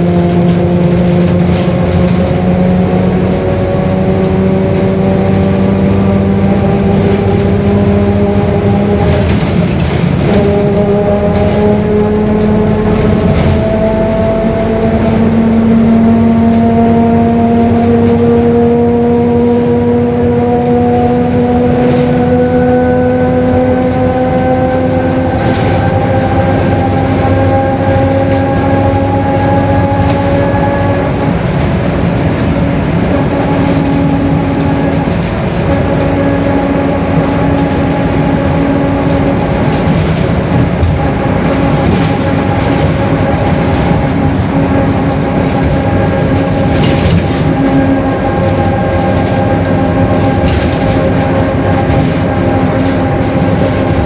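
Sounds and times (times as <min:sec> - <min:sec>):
bus drivetrain running: 0:00.0 - 0:54.0.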